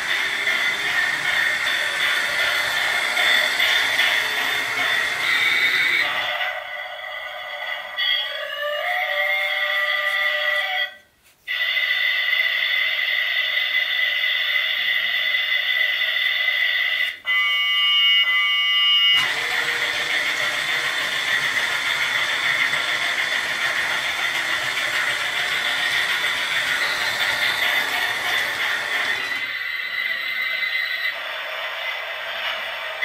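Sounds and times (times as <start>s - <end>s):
toy train hissing whirr: 0.0s - 10.8s, 11.5s - 17.2s, 19.2s - 33.0s
toy train whistle chord: 0.0s - 12.7s, 17.2s - 31.2s.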